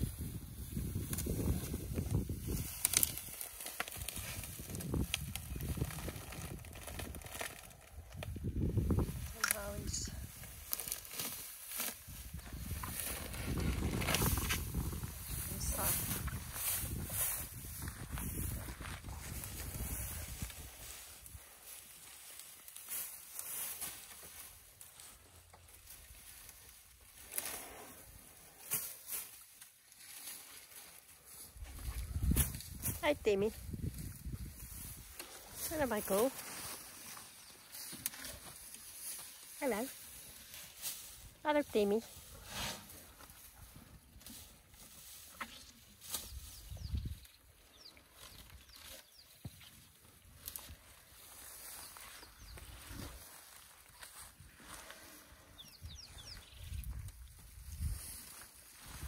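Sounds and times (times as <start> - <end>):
rustling and crunching vegetation: 0.0 - 59.0
dry grass crackling and snapping: 0.1 - 55.2, 55.9 - 59.0.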